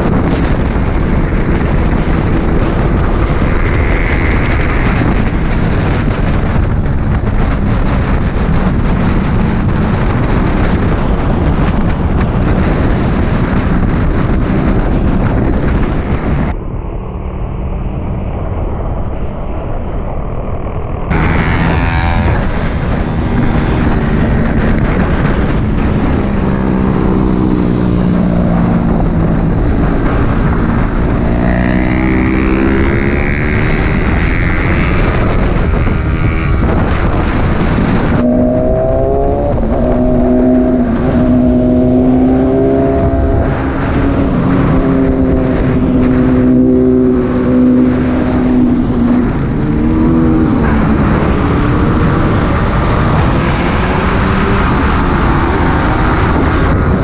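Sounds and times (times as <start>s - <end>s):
motorcycle engine running: 0.0s - 18.4s, 21.0s - 57.0s
wind rush on microphone: 0.0s - 57.0s.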